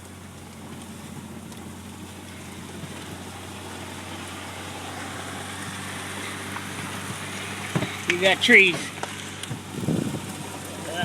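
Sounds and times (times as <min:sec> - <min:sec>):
trees scraping along road: 0:00.0 - 0:11.0
vehicle engine running: 0:00.0 - 0:11.0.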